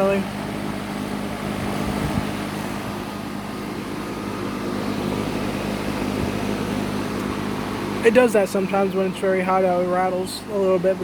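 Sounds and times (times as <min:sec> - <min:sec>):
air conditioner unit humming: 0:00.0 - 0:11.0
fan rattling: 0:00.0 - 0:11.0.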